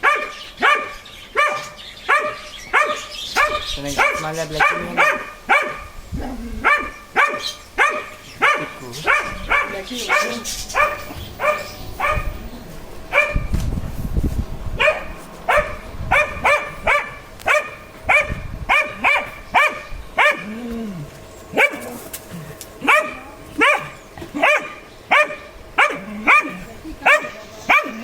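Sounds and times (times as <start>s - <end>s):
dog barking: 0.0s - 6.0s, 6.6s - 12.4s, 13.1s - 13.5s, 14.8s - 20.6s, 21.5s - 22.0s, 22.8s - 28.0s.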